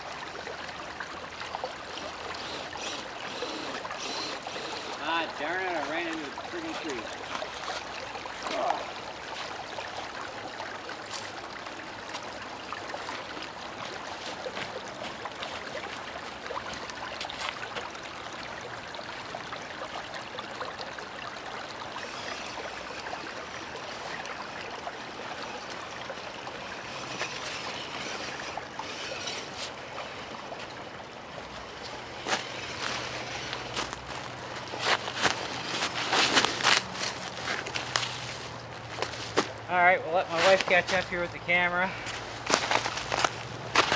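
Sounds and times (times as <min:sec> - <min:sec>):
rushing stream-like noise: 0:00.0 - 0:43.9.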